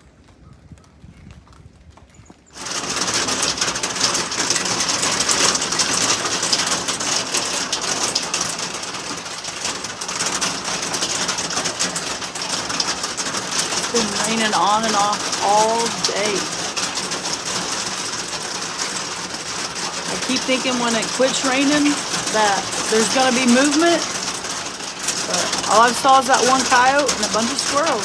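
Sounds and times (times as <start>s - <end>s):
rain on a roof: 0.0s - 28.0s.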